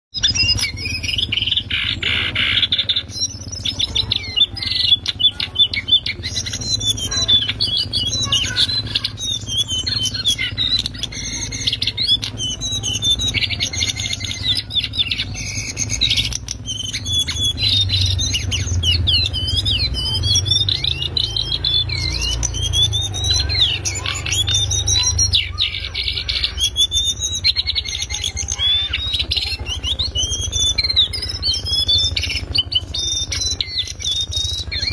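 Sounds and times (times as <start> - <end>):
bird singing whistled notes: 0.1 - 34.9.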